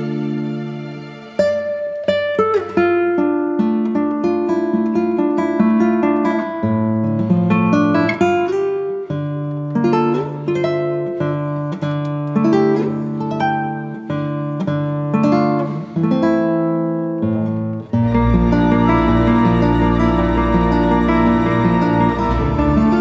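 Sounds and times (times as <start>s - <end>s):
acoustic guitar plucked chords: 0.0s - 23.0s.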